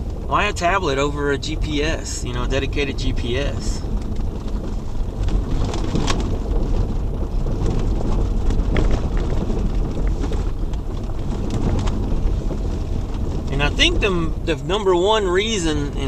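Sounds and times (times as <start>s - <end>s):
gravel crunching: 0.0s - 16.0s
vehicle engine and tyres rumbling: 0.0s - 16.0s.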